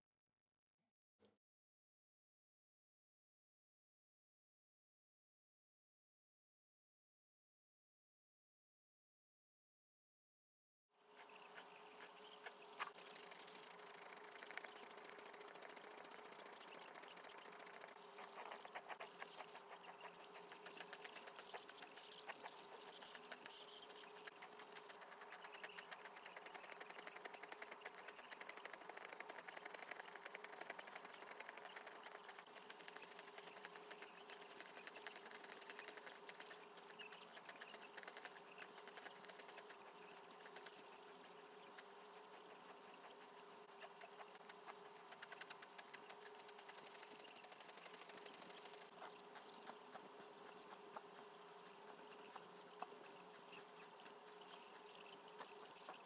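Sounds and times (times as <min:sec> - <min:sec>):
fine rapid crackle: 0:11.1 - 0:56.0.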